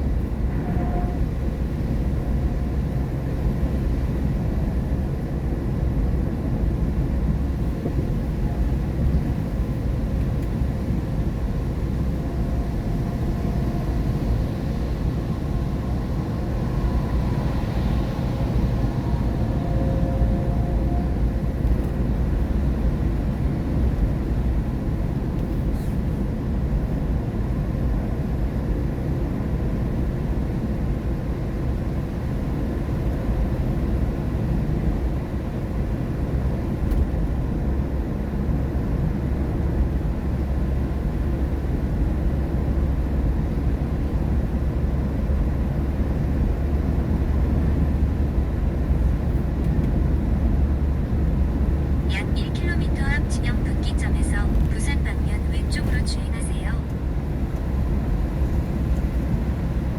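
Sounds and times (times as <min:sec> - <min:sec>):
road and tyre noise in car: 0:00.0 - 0:59.9.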